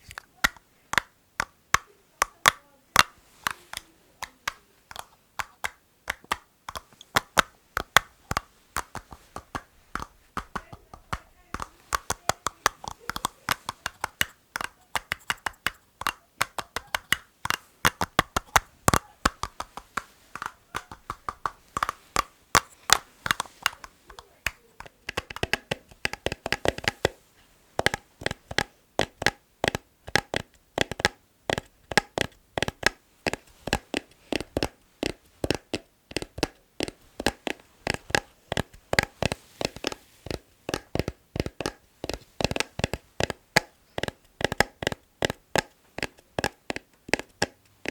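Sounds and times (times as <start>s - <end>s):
fingers tapping on household items: 0.0s - 47.9s.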